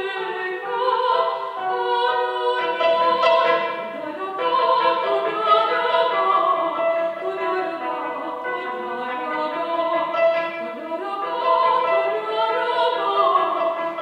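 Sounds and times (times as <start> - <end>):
woman singing classical: 0.0 - 14.0.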